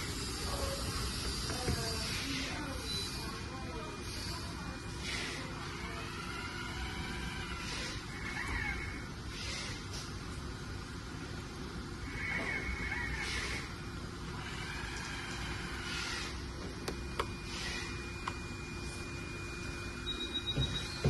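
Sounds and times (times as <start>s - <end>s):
excavator pump humming and whining: 0.0s - 21.0s.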